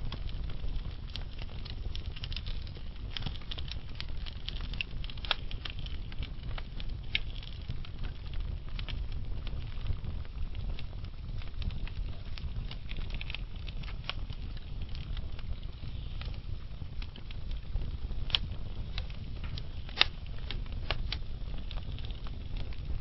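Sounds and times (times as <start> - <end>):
fire crackling and popping: 0.0 - 23.0
low rumble of flames: 0.0 - 23.0.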